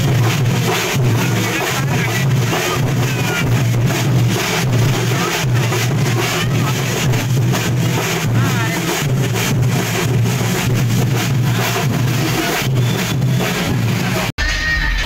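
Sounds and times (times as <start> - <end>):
crowd chatter: 0.0 - 15.0
drum ensemble playing: 0.0 - 15.0
heavy low throbbing drum beat: 0.0 - 15.0.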